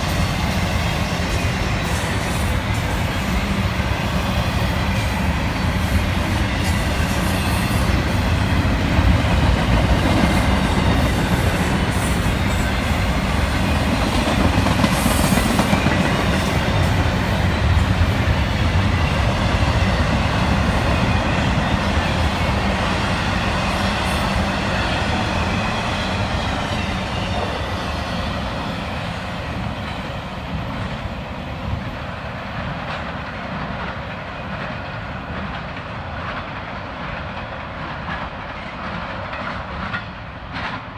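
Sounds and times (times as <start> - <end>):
freight train wheels on rail: 0.0 - 40.9.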